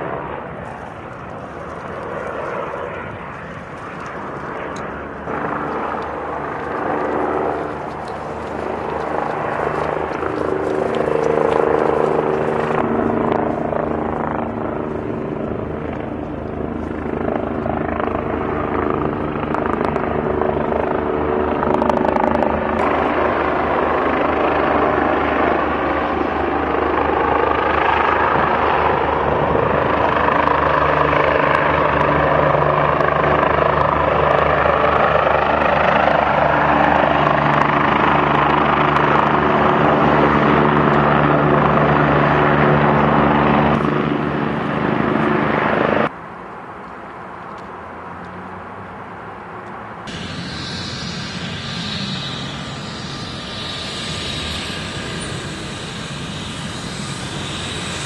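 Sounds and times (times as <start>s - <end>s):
helicopter rotor and engine: 0.0s - 46.2s, 50.0s - 58.0s.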